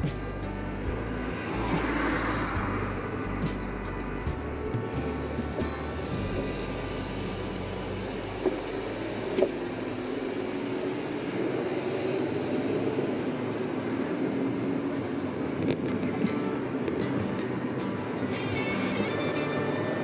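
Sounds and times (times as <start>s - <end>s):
car engine and tyre hum: 0.0s - 20.0s.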